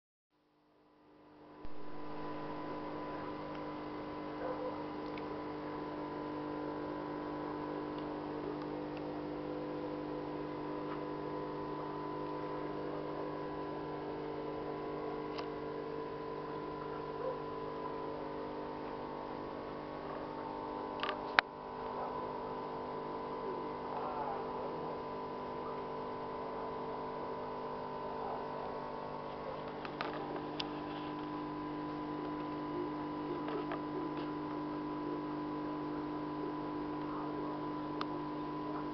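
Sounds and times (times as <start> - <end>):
aquarium equipment humming: 0.6 - 38.9.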